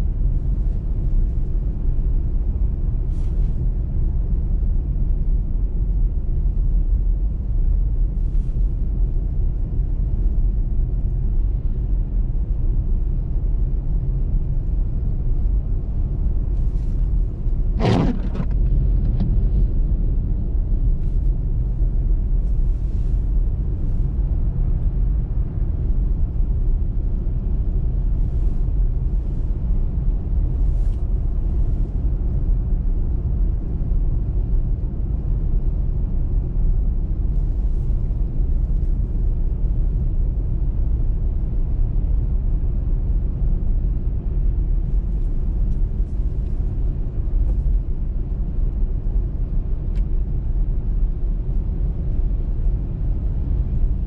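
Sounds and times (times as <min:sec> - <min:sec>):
car driving on road: 0:00.0 - 0:54.0.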